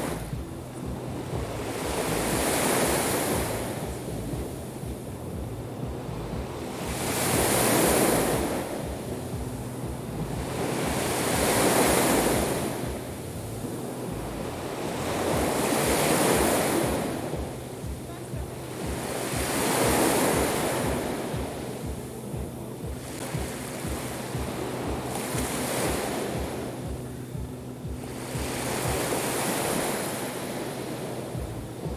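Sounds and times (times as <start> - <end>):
waves breaking on shore: 0.0 - 31.9.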